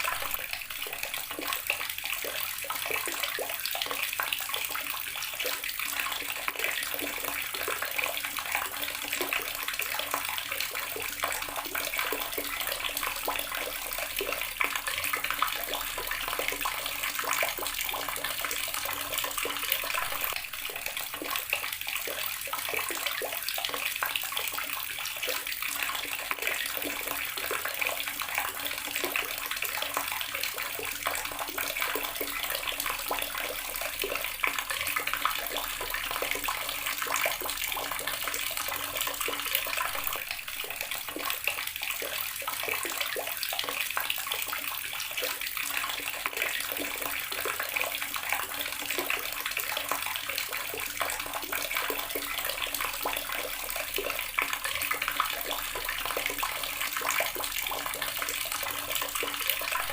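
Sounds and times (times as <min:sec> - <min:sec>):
water running from tap splashing: 0:00.0 - 0:59.9.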